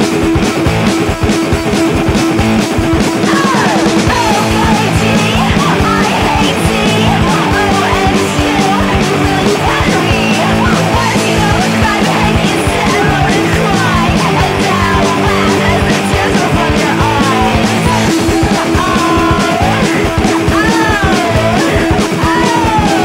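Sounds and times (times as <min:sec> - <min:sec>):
distorted electric guitar: 0:00.0 - 0:23.0
fast drums: 0:00.0 - 0:23.0.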